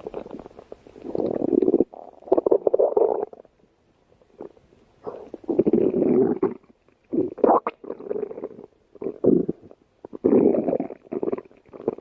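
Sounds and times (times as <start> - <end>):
stomach growling: 0.0 - 3.5, 4.4 - 12.0.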